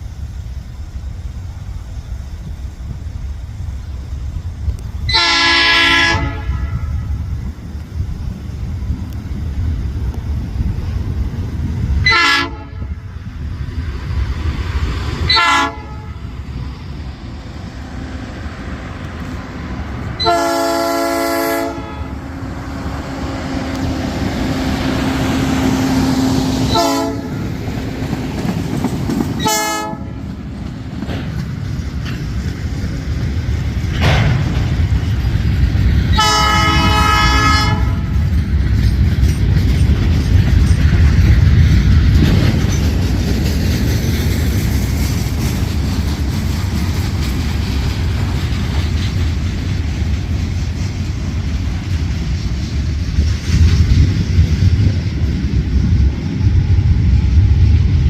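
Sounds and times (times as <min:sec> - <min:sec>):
truck rumbling on rails: 0:00.0 - 0:58.0.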